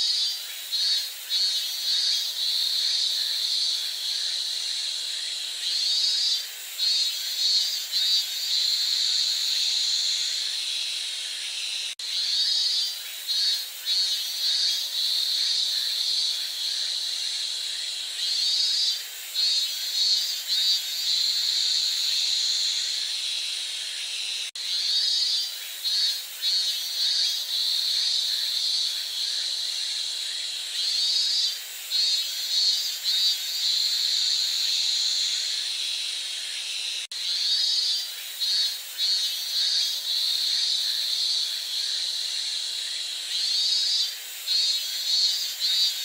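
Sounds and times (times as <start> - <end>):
cicadas buzzing: 0.0 - 46.0.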